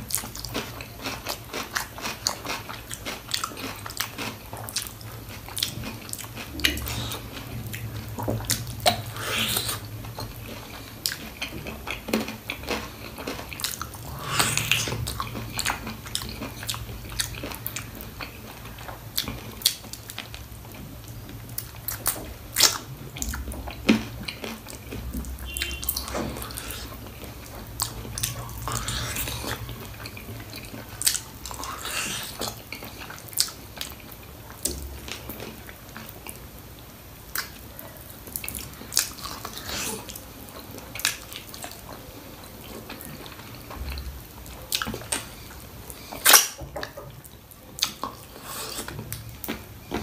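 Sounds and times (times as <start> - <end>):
person chewing food: 0.0 - 36.4, 37.2 - 50.0.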